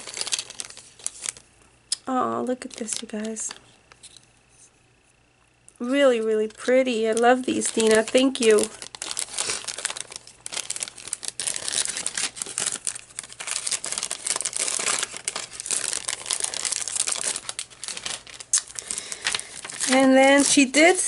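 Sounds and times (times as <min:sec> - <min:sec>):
packaging crinkling: 0:00.0 - 0:04.2, 0:06.1 - 0:21.0.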